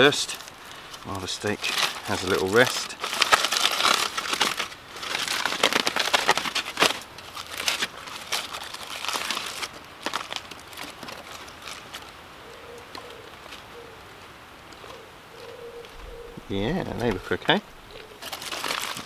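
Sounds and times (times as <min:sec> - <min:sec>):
foil crinkling: 0:00.0 - 0:13.7, 0:16.8 - 0:19.0.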